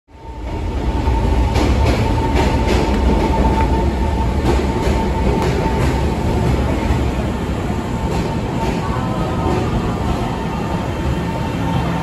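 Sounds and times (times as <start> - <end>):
electric train rumble: 0.1 - 12.0.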